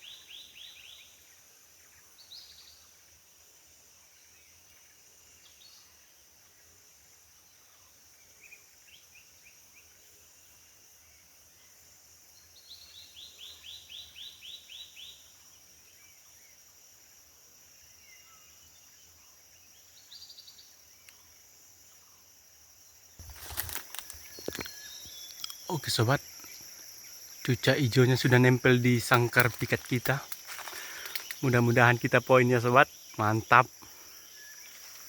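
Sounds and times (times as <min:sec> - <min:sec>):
forest birds calling: 0:00.0 - 0:03.0, 0:07.5 - 0:16.8, 0:17.8 - 0:35.0
high insect drone: 0:00.0 - 0:35.0.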